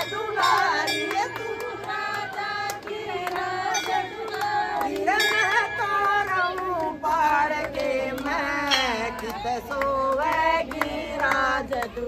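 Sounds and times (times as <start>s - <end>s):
hand claps: 0.0s - 12.0s
women singing devotional song: 0.0s - 12.0s.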